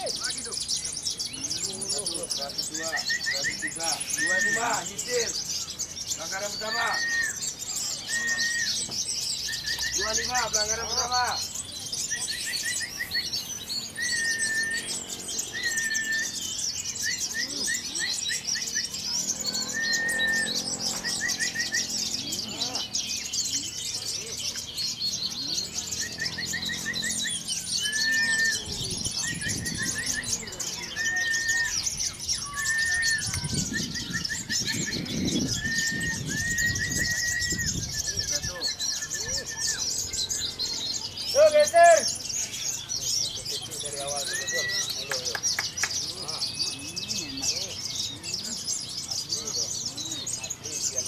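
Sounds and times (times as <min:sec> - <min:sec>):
bird whistled note and trill: 0:00.0 - 0:45.8
songbirds chirping and trilling: 0:00.0 - 0:51.0.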